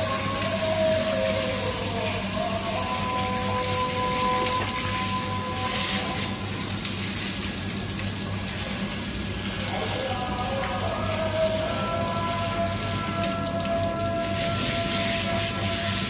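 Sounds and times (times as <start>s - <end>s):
hose spraying water on fish: 0.0s - 16.0s.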